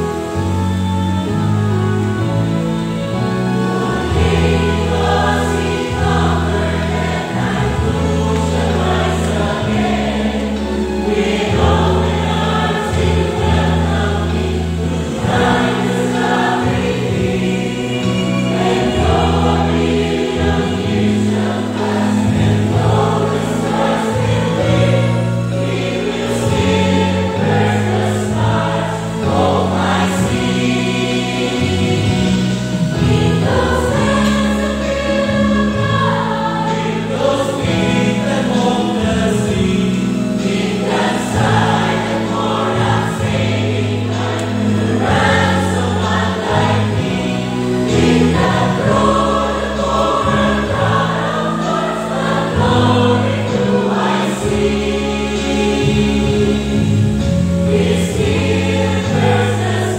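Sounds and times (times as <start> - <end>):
choir singing a hymn: 0.0 - 59.9
sustained low instrumental chords: 0.0 - 59.9.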